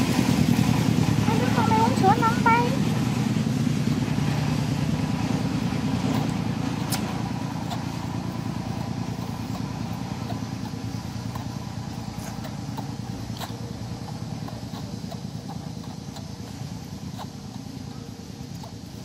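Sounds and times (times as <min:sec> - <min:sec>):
motor engine pulsing drone: 0:00.0 - 0:19.0.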